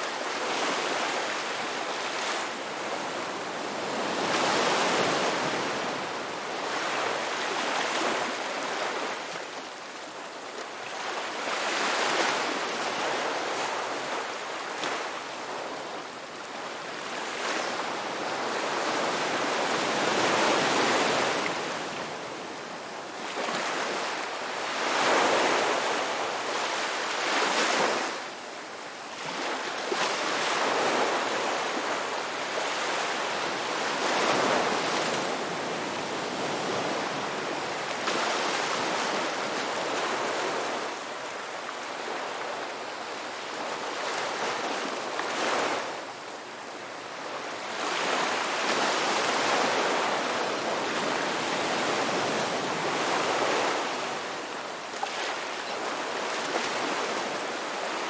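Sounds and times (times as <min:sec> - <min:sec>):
ocean waves breaking on shore: 0:00.0 - 0:28.4, 0:29.0 - 0:58.0.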